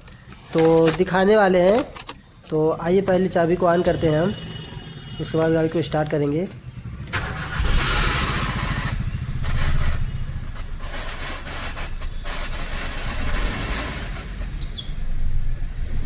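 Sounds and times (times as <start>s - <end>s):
transmission rattling: 0.0s - 16.0s
car engine running: 3.0s - 16.0s.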